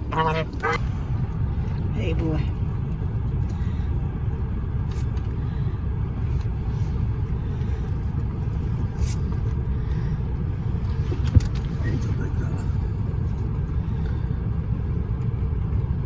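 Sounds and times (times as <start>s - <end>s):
car rumble from inside cabin: 0.0s - 16.0s.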